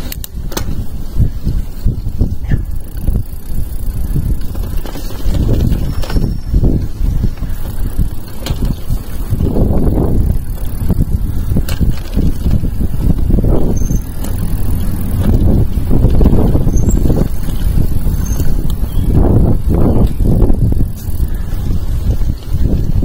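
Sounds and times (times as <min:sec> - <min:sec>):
bike rattling clicks: 0:00.0 - 0:23.0
tyres rumbling on dirt: 0:00.0 - 0:23.0
wind on microphone: 0:00.0 - 0:23.0.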